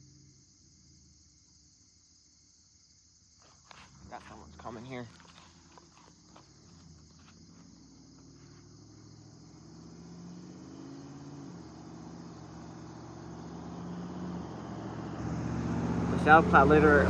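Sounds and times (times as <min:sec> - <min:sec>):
car approaching: 0:03.2 - 0:17.0.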